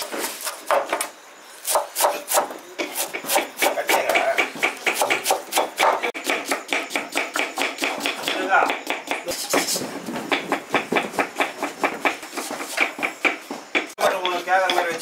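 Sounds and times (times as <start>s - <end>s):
knife chopping on cutting board: 1.7s - 14.8s.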